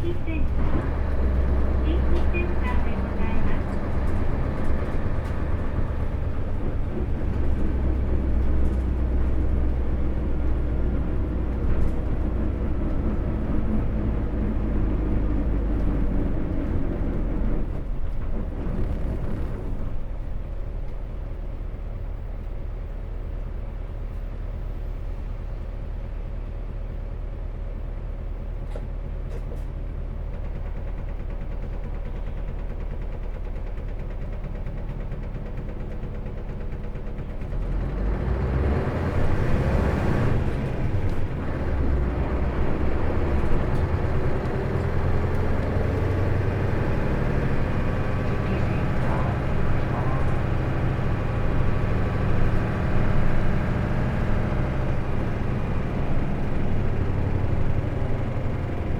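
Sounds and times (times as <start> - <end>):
bus diesel engine: 0.0 - 58.9.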